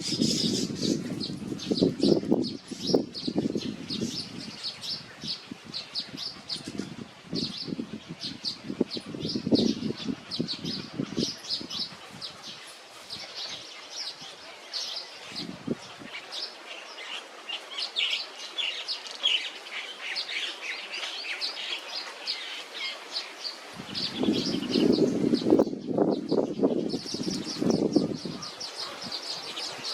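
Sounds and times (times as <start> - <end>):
songbirds chirping: 0.0 - 29.9.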